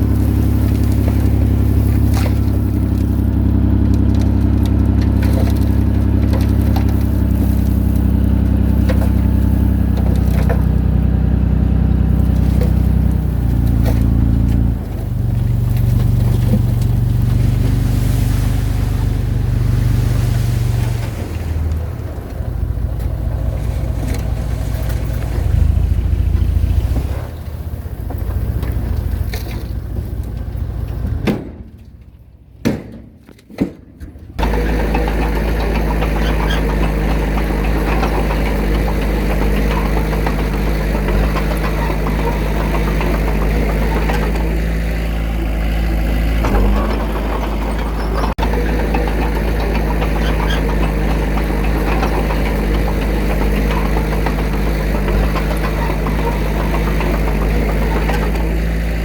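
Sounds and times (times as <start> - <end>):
diesel engine running: 0.0 - 32.7, 34.0 - 59.0.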